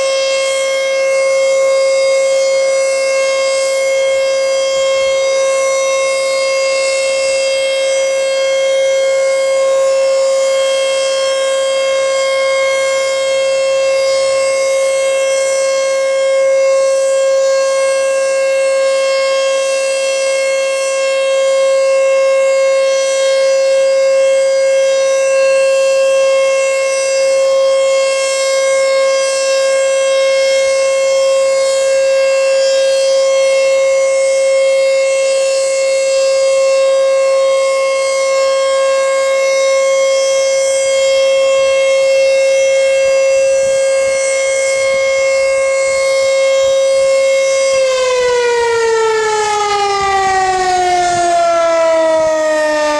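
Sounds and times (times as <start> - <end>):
tornado siren steady tone: 0.0 - 52.9.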